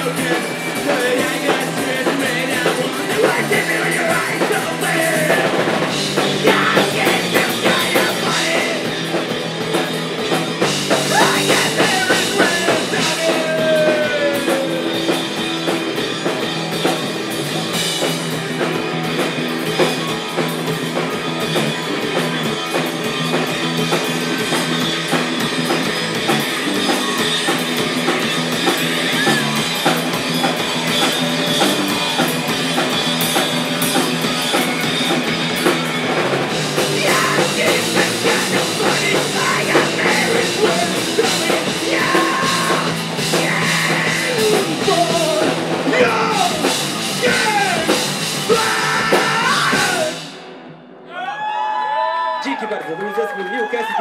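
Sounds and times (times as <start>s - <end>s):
electric guitar: 0.0s - 51.3s
drum kit: 0.0s - 51.4s.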